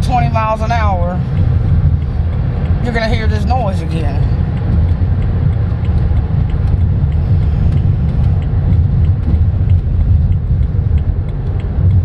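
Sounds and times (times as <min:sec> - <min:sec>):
low rumbling drone in car: 0:00.0 - 0:12.0.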